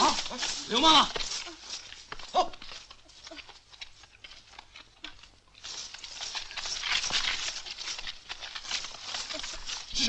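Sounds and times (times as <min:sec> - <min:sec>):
footsteps crunching through brush: 0:00.0 - 0:10.0.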